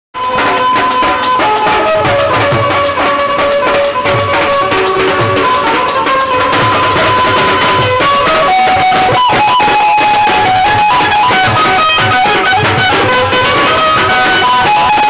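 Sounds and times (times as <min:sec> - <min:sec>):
melody of held notes: 0:00.2 - 0:15.0
steady drum beat: 0:00.2 - 0:15.0.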